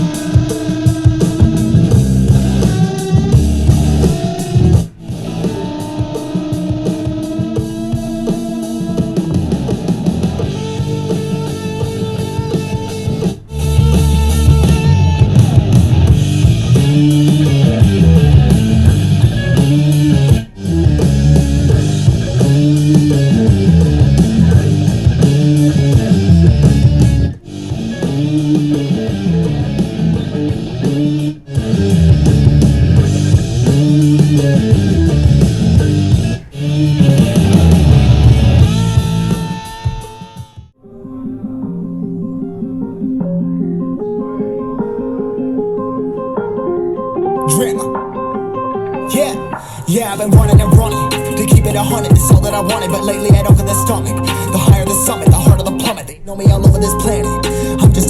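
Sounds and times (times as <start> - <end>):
instrumental rock music: 0.0 - 58.0.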